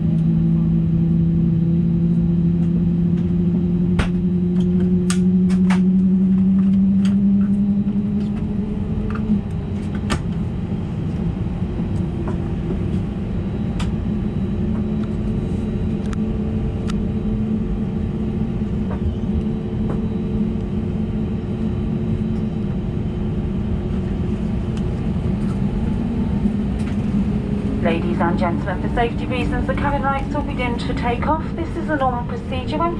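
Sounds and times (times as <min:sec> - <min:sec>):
aircraft cabin drone: 0:00.0 - 0:32.9
humming tone: 0:00.0 - 0:32.9.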